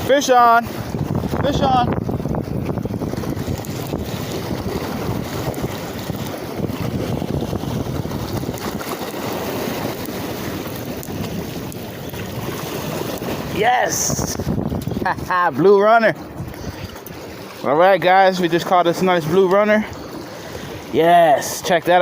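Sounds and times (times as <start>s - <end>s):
waves washing: 0.0s - 22.0s
wind buffeting microphone: 0.0s - 22.0s.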